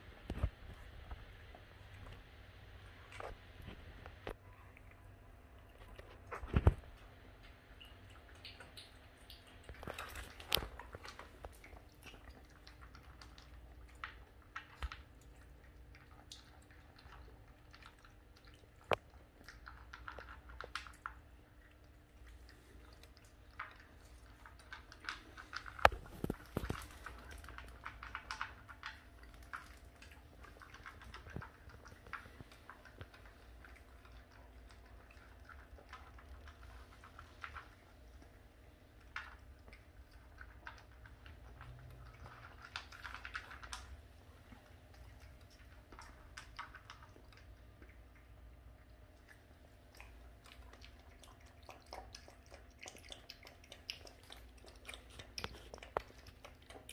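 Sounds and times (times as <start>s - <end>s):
puppy crunching kibble: 0.2s - 56.9s.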